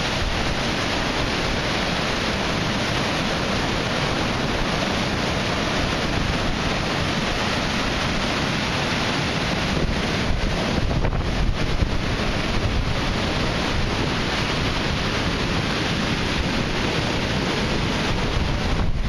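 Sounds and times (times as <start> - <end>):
heavy surf breaking around pilings: 0.0 - 19.0.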